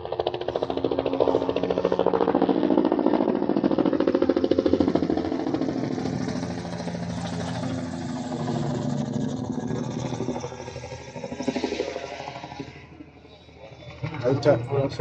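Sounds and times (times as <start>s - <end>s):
helicopter rotor thudding: 0.0s - 15.0s.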